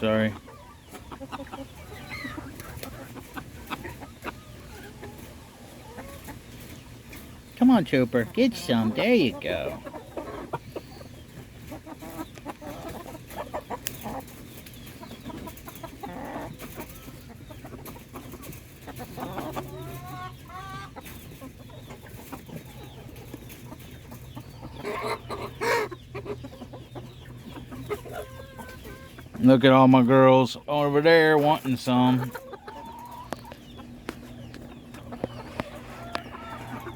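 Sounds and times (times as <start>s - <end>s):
chickens clucking and calling: 0.0s - 36.9s.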